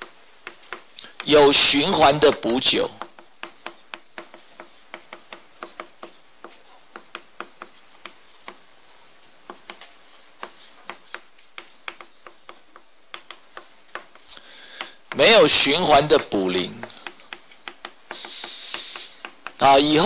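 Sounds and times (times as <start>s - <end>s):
chalk tapping on blackboard: 0.0s - 20.0s.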